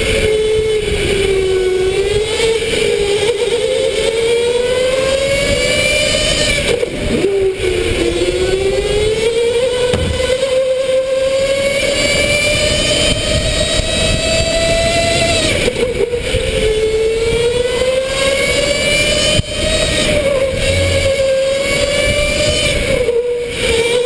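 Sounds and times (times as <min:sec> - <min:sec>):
electric go-kart motor whining: 0:00.0 - 0:24.0.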